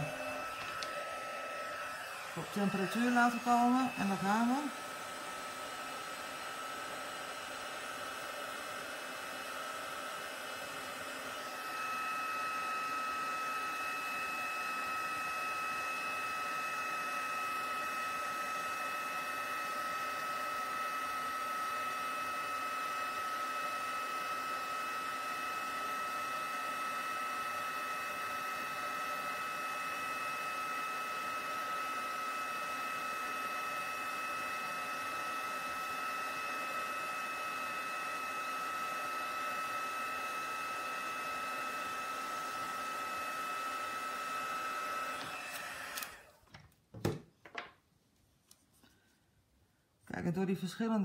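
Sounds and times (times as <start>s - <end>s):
heat gun whining: 0.0s - 47.2s.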